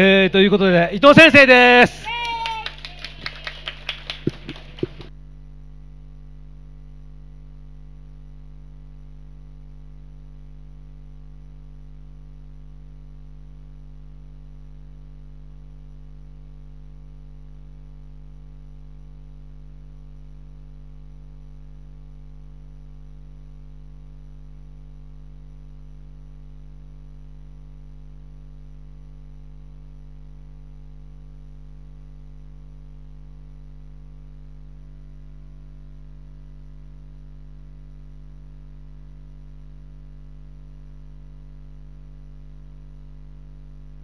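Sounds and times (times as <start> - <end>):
electrical hum: 0.0 - 44.0.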